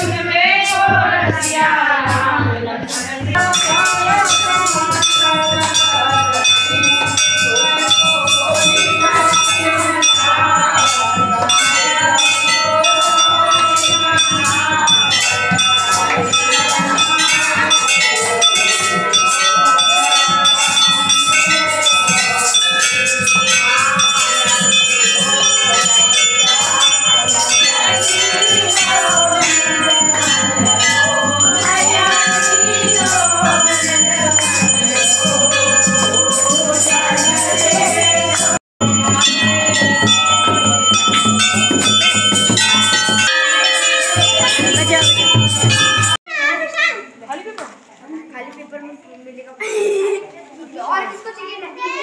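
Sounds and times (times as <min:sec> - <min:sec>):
group singing: 0:00.0 - 0:46.2
brass bells ringing: 0:03.3 - 0:46.4.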